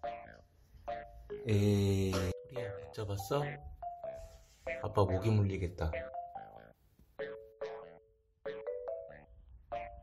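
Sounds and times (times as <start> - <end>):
playful bouncy music: 0.0 - 10.0.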